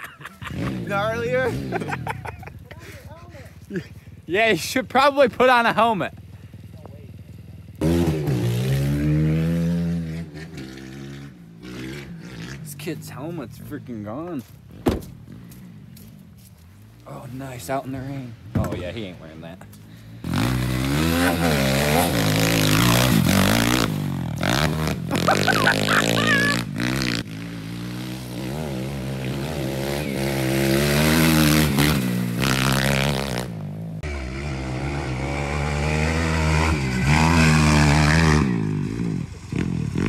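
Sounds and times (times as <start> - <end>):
pit bike engine revving: 0.0 - 13.7, 20.0 - 40.0.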